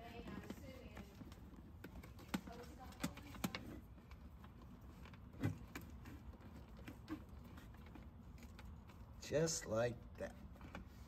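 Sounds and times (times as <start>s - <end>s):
clicks and rustling of wiring: 0.0s - 9.2s.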